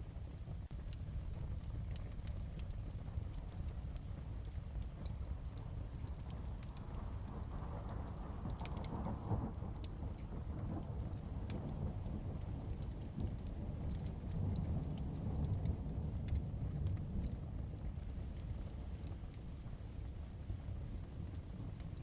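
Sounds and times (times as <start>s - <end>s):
steady rain: 0.0s - 22.0s
wood fire crackling: 0.0s - 22.0s.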